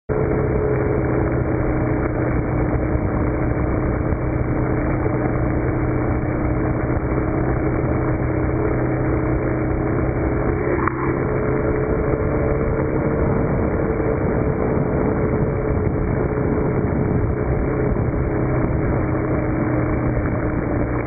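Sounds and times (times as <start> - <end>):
low hum: 0.1 - 21.0.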